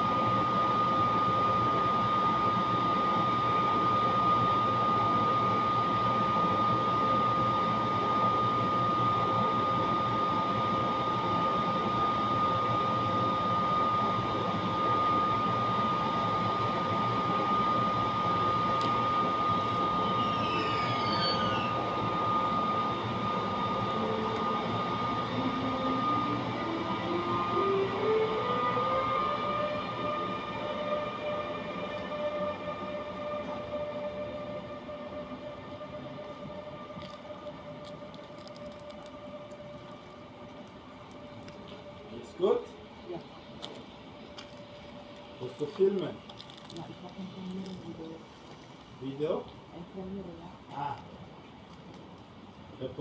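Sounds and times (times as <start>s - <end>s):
rising stepped motor whine: 0.0s - 42.6s
electric train high whine: 0.0s - 53.0s.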